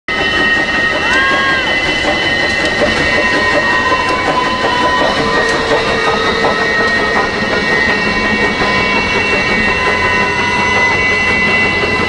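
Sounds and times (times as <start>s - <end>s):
train running on track: 0.1s - 12.0s.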